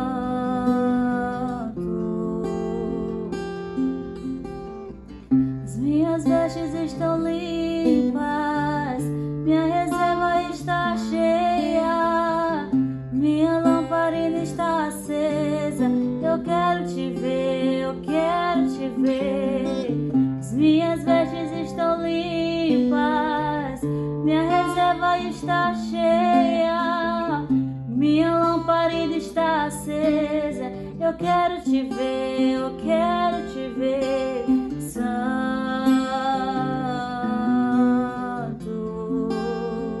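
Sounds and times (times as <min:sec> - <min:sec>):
person singing: 0:00.0 - 0:04.1, 0:05.6 - 0:40.0
acoustic guitar: 0:00.0 - 0:40.0.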